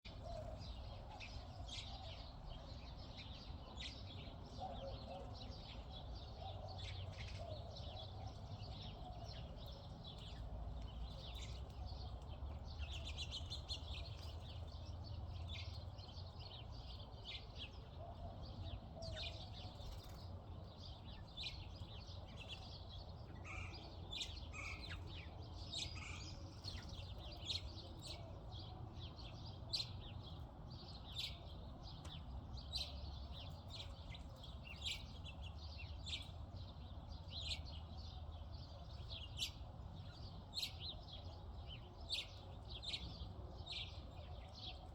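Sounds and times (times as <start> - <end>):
small birds chirping: 0.1 - 44.9.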